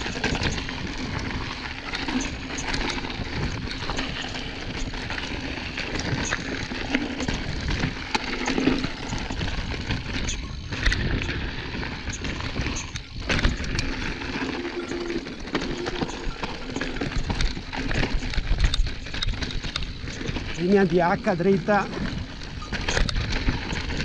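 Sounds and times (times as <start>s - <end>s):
bike rattling and knocking: 0.0s - 24.0s
wind on microphone: 0.0s - 24.0s.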